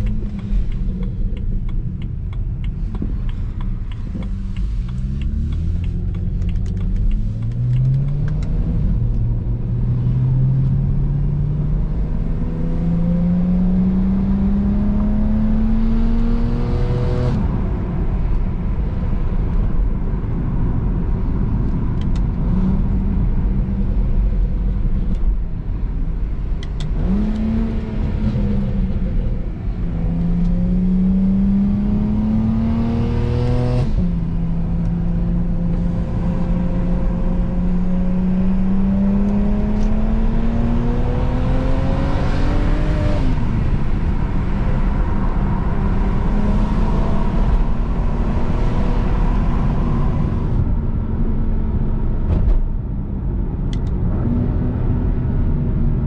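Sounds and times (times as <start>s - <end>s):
car engine accelerating hard: 0.0s - 17.9s, 26.6s - 56.0s.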